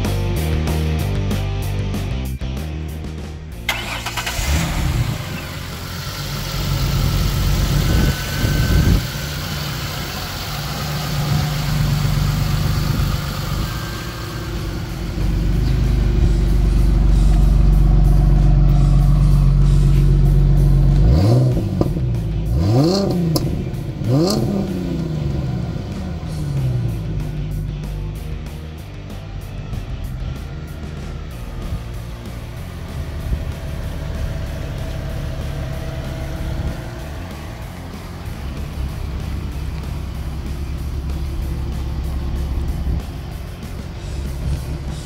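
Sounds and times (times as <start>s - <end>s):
car engine starting and revving: 3.5s - 45.0s.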